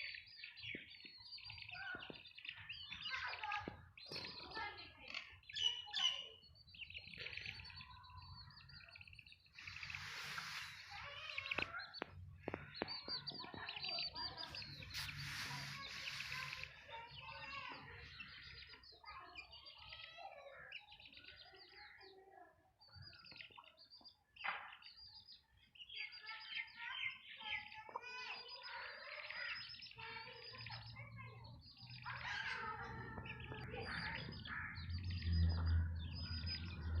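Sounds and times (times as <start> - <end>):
chicks peeping: 0.1 - 22.2, 22.9 - 37.0.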